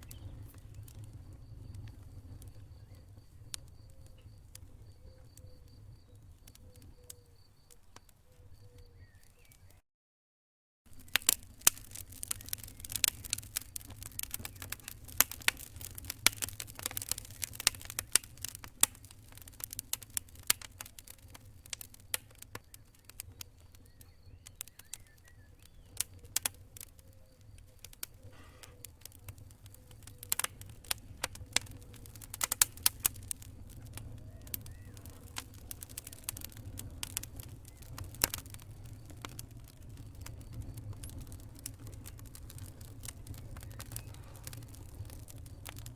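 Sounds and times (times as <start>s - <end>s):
campfire crackling and popping: 0.0s - 9.8s, 10.9s - 45.9s.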